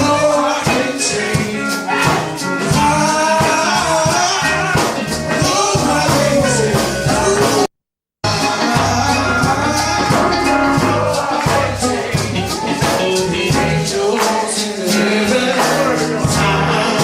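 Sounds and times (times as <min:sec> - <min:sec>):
gospel singing over a band: 0:00.0 - 0:17.0
shaker or tambourine beat: 0:00.0 - 0:17.0.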